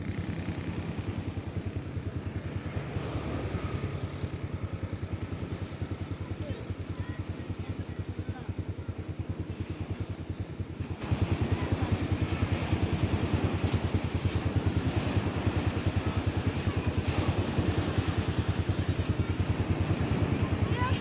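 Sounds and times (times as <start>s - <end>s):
engine pulsing: 0.0s - 21.0s.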